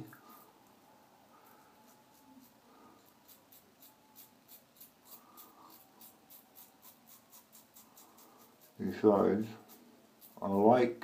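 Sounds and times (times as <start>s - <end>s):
razor scraping stubble: 1.4s - 11.0s.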